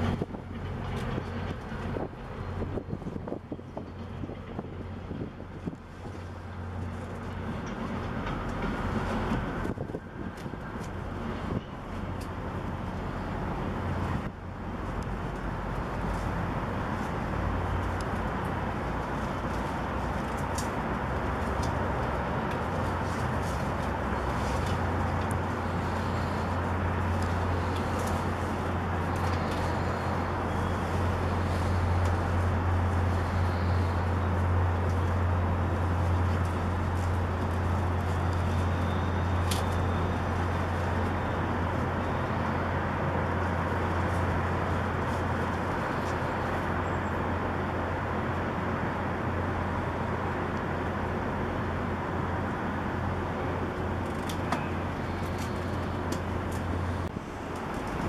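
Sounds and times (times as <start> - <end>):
city traffic noise: 0.0 - 58.0
constant low hum: 0.0 - 58.0.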